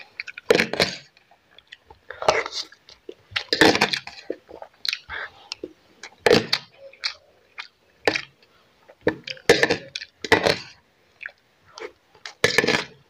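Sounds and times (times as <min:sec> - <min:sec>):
person chewing crunchy food: 0:00.0 - 0:13.0.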